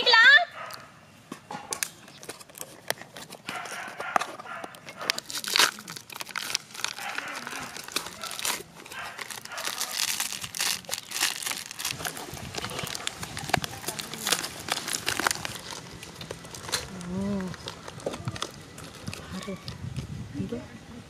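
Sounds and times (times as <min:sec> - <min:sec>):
foil sachet tearing and crinkling: 0:01.8 - 0:19.5.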